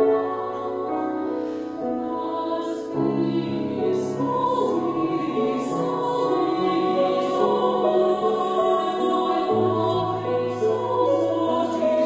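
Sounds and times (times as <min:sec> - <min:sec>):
mixed choir singing: 0:00.0 - 0:12.0.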